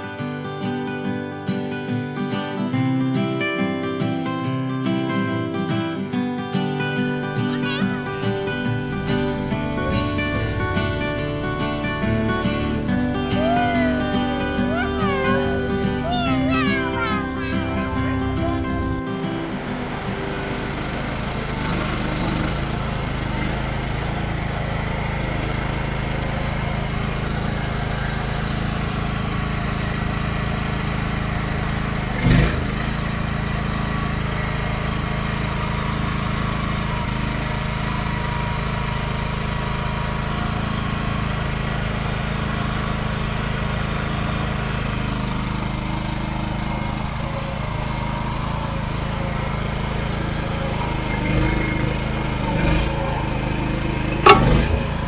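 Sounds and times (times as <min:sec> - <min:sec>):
engine running steadily: 0:07.4 - 0:55.0.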